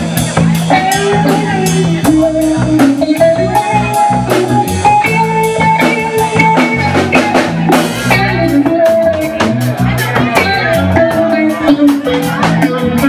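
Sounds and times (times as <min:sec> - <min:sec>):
bass guitar: 0:00.0 - 0:13.0
drum kit beat: 0:00.0 - 0:13.0
electric guitar: 0:00.0 - 0:13.0.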